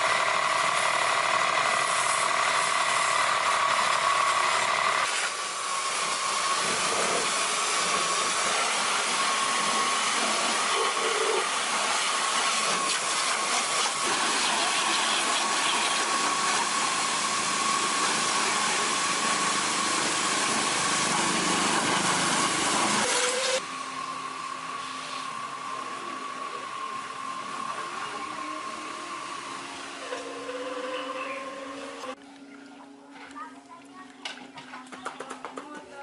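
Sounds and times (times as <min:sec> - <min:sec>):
power tool whining: 0:00.0 - 0:24.2, 0:24.8 - 0:32.2.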